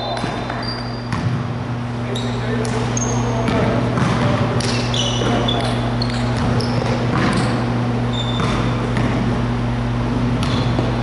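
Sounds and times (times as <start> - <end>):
sneakers squeaking on wooden floor: 0.0 - 1.4, 2.0 - 9.4, 10.2 - 11.0
steady low hum: 0.0 - 11.0
basketball bouncing: 0.1 - 1.5, 2.6 - 9.5, 10.2 - 11.0.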